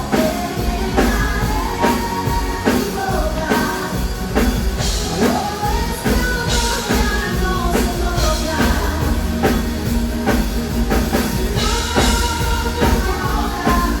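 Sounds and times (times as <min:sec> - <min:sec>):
rock-style pop music with singing: 0:00.0 - 0:14.0.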